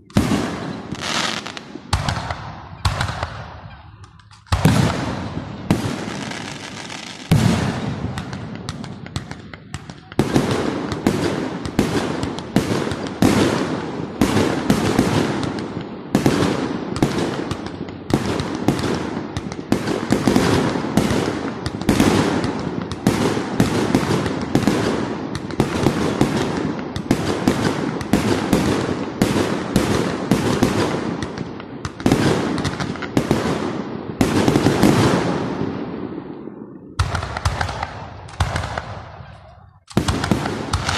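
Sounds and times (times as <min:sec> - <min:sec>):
fireworks bangs echoing: 0:00.0 - 0:40.9.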